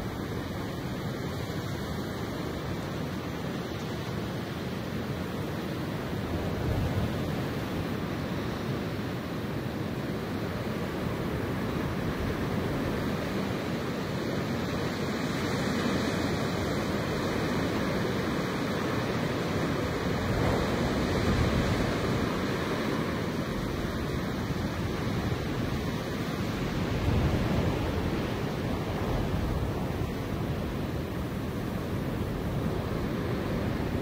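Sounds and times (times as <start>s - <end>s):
wind blowing through grass: 0.0s - 34.0s.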